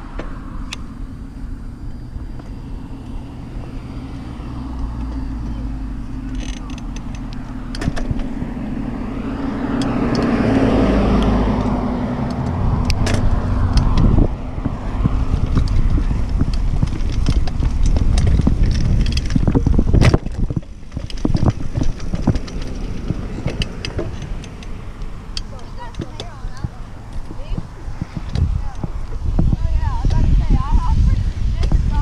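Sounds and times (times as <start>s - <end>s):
bicycle rattling and knocking: 0.0s - 32.0s
wind rumbling on microphone: 0.0s - 32.0s.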